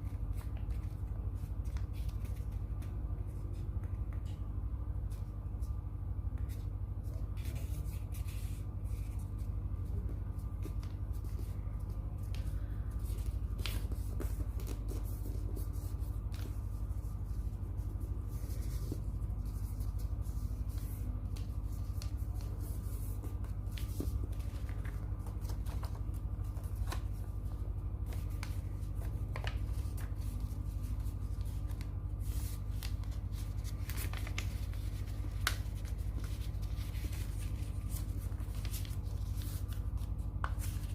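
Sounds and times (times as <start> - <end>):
paper rustling and crinkling: 0.0 - 4.2, 6.4 - 40.9.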